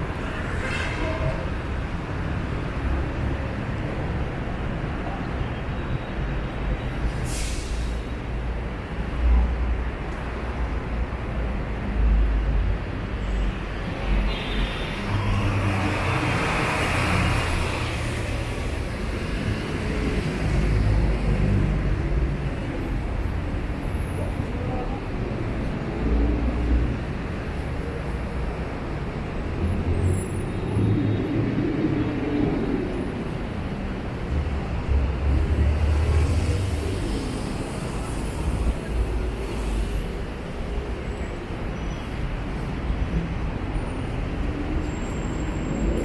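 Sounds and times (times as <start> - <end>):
buses and cars running: 0.0 - 46.0.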